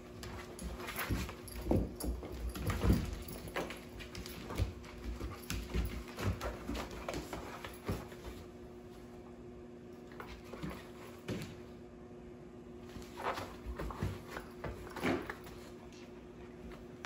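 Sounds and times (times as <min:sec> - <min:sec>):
dogs scuffling on wooden floor: 0:00.0 - 0:09.0, 0:10.1 - 0:11.6, 0:12.8 - 0:17.0.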